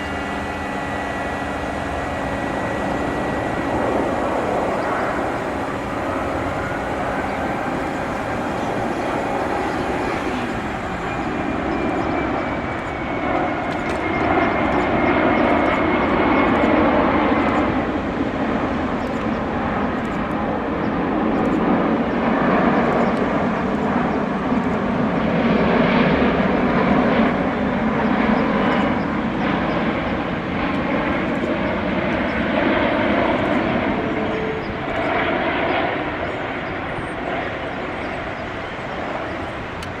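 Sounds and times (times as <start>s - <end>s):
faint high engine whine: 0.0s - 40.0s
jet engines roaring: 0.0s - 40.0s.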